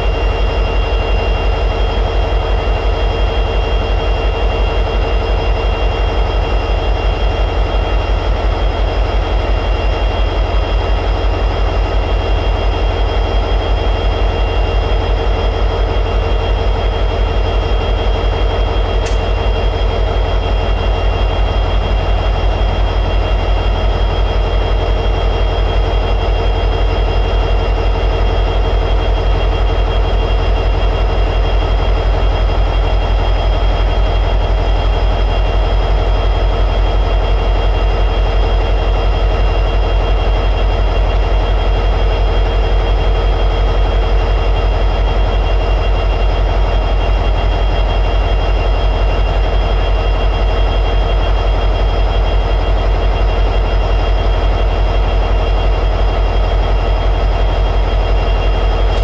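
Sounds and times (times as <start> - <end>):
locomotive diesel engine idling: 0.0 - 59.0.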